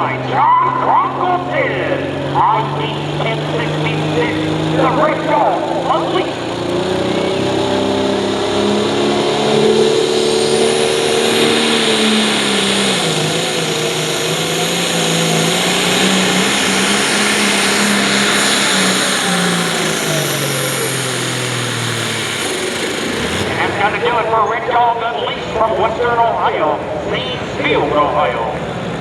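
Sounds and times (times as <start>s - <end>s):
diesel tractor engine at full throttle: 0.0s - 29.0s
high turbo whine: 0.0s - 29.0s.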